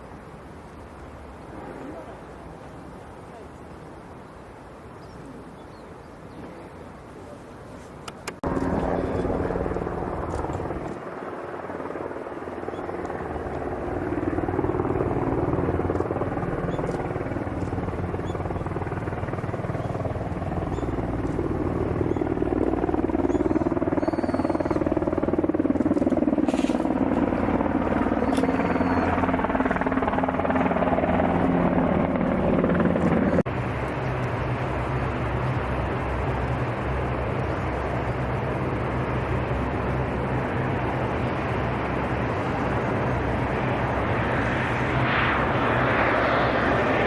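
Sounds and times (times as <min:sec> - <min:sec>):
aircraft engines running: 0:06.2 - 0:47.0.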